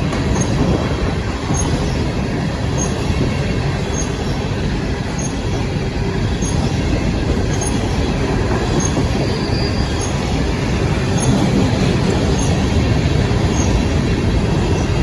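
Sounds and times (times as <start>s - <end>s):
train cars rumbling on rails: 0.0s - 15.0s.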